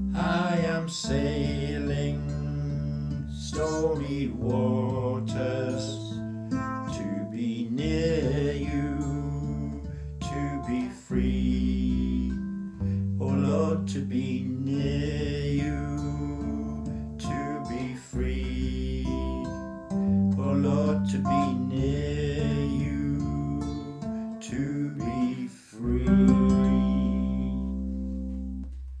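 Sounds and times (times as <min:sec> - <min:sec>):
sustained low bass notes: 0:00.0 - 0:29.0
ukulele strumming chords: 0:00.0 - 0:29.0.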